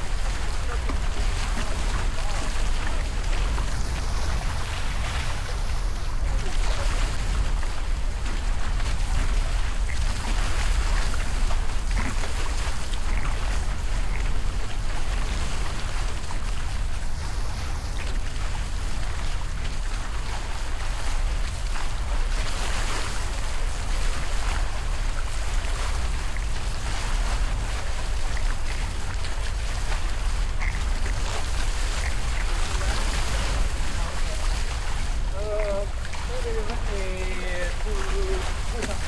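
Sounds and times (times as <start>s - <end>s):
water rushing along hulls: 0.0s - 39.0s
wind buffeting microphone: 3.0s - 39.0s.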